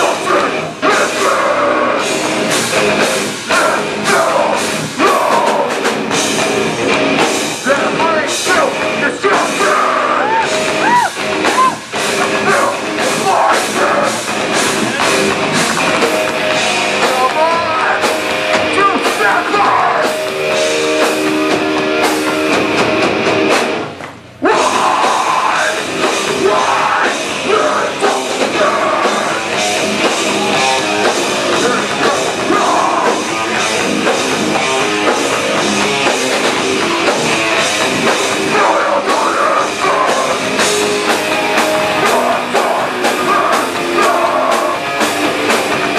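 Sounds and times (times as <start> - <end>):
live heavy rock band: 0.0 - 45.9.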